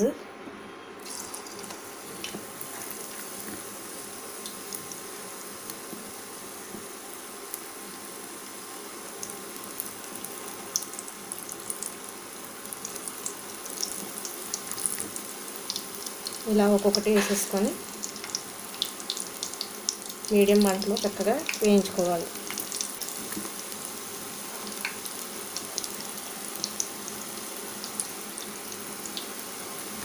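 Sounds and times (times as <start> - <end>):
deep-frying in hot oil: 1.0 - 30.0.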